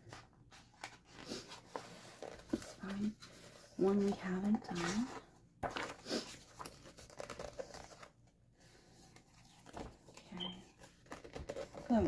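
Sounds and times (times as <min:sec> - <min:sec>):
book pages rustling: 0:00.0 - 0:12.0.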